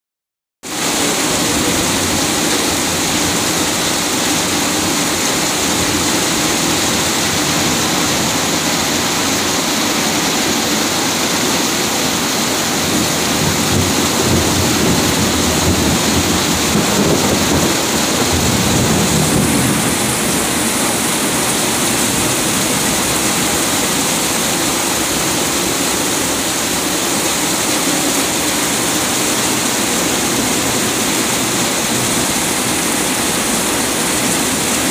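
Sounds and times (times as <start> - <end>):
heavy rain pouring: 0.6 - 34.9
water streaming off roof: 0.6 - 34.9.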